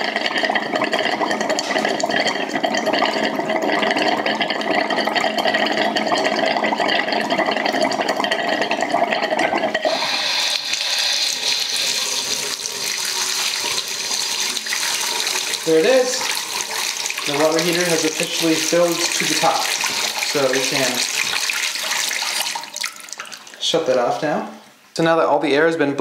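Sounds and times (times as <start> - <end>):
tap water running: 0.0 - 24.8.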